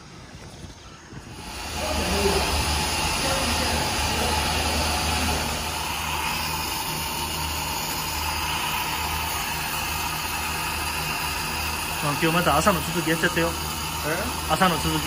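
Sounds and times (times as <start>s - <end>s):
low machinery hum: 0.0s - 15.0s
steady rushing hiss: 0.0s - 15.0s.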